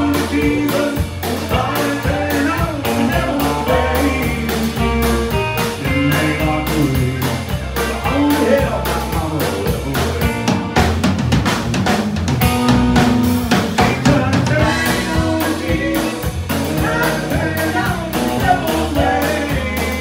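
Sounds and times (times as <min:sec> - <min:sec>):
person singing: 0:00.0 - 0:10.6, 0:13.5 - 0:20.0
bass: 0:00.0 - 0:20.0
live country band playing: 0:00.0 - 0:20.0
steady drum beat: 0:00.0 - 0:20.0.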